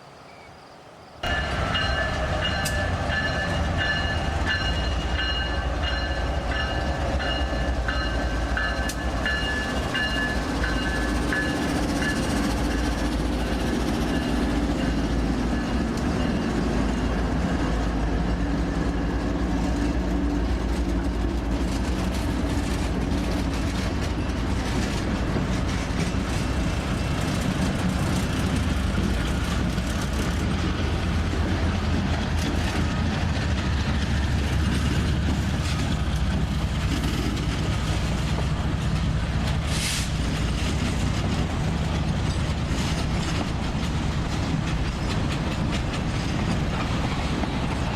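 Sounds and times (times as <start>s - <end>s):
train cars rumbling past: 0.0s - 47.9s
wheels clicking over rail joints: 1.2s - 47.9s.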